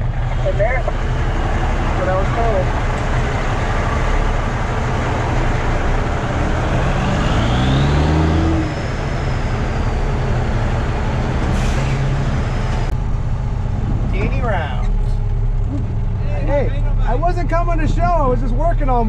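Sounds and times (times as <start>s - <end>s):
diesel truck engine accelerating: 0.0s - 19.0s.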